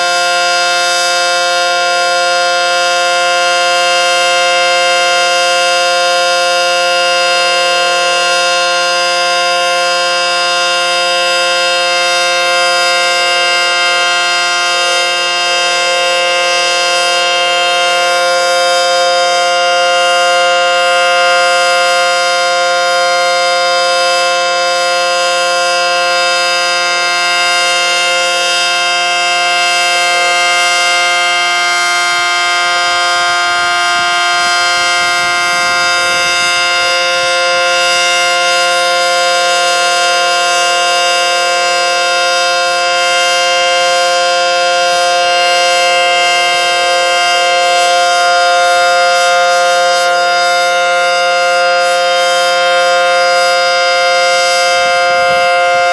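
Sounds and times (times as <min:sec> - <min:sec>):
tornado siren steady tone: 0:00.0 - 0:55.9.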